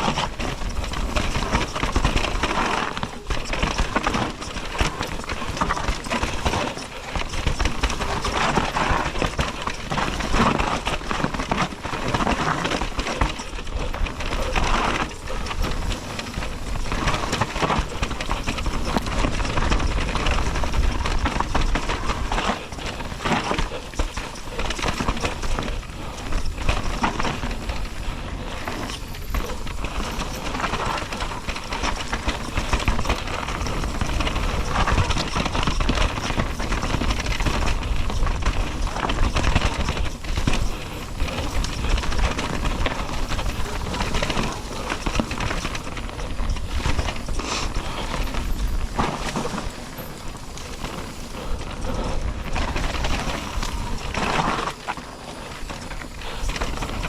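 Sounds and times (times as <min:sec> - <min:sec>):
bike parts rattling: 0:00.0 - 0:57.0
tyre roar on dirt: 0:00.0 - 0:57.0.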